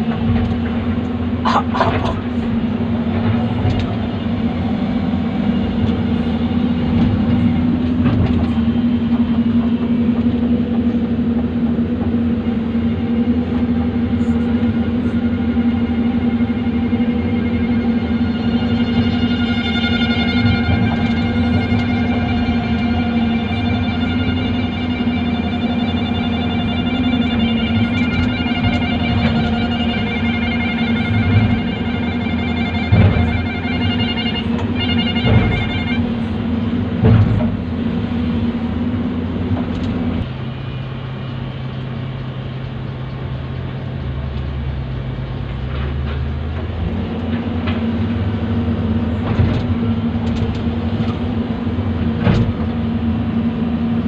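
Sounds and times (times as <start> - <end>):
excavator diesel engine running: 0.0 - 54.0
high whine: 0.0 - 54.0.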